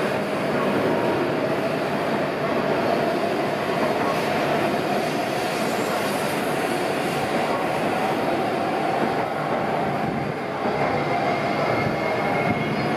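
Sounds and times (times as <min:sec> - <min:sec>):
train hum: 0:00.0 - 0:12.9
train rolling rumble: 0:00.0 - 0:12.9.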